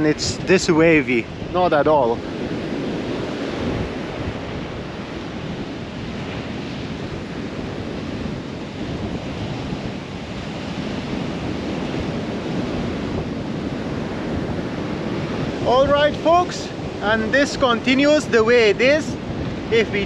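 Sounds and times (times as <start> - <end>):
surf breaking on shore: 0.0 - 20.0
wind buffeting microphone: 0.0 - 20.0.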